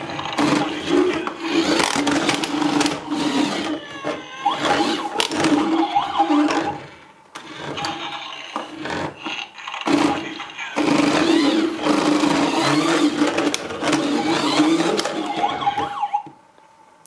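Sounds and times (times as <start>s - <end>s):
toy electronic engine sound: 0.0s - 16.3s.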